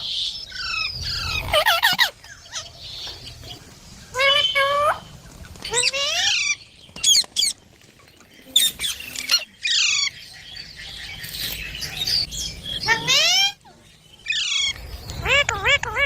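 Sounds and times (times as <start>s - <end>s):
parakeet chirping and squawking: 0.0s - 7.7s, 8.4s - 16.0s.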